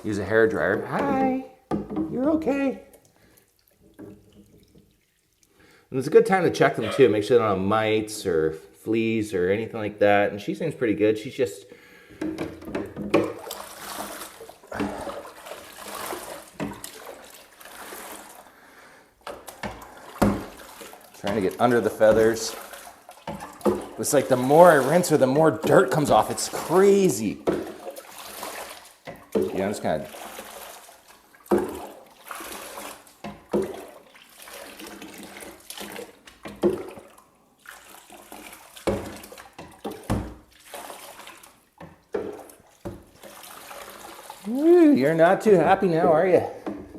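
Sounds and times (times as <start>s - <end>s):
water running and splashing: 2.1s - 7.3s, 12.6s - 46.9s.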